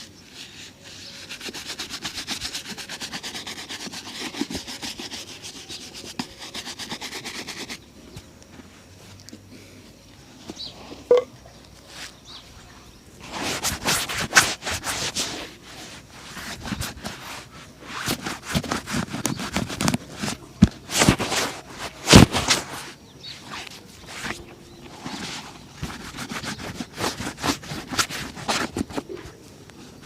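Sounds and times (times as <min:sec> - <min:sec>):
brush scraping and rubbing shoe: 0:00.0 - 0:09.2, 0:10.3 - 0:11.2, 0:11.8 - 0:30.0.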